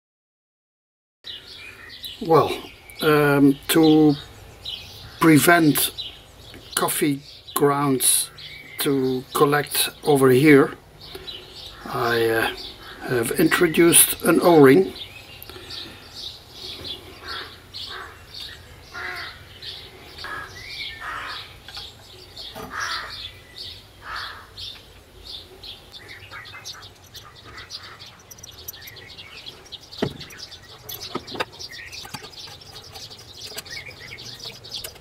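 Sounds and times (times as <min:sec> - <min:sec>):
small birds chirping: 0:01.3 - 0:35.0.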